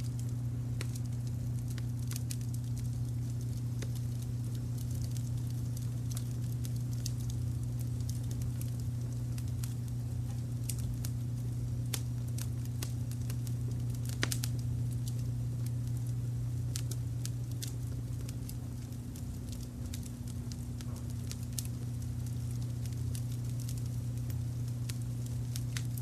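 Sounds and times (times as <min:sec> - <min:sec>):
sharp pops from fire: 0:00.0 - 0:26.0
wood fire crackling: 0:00.0 - 0:26.0.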